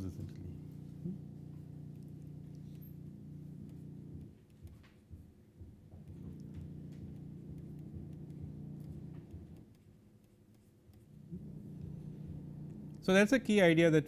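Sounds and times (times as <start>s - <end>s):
low steady hum: 0.0s - 4.9s, 5.6s - 14.0s
stylus tapping on tablet screen: 1.5s - 13.0s.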